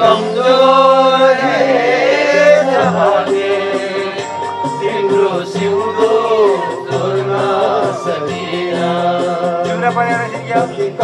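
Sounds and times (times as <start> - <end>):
instrumental accompaniment: 0.0 - 11.0.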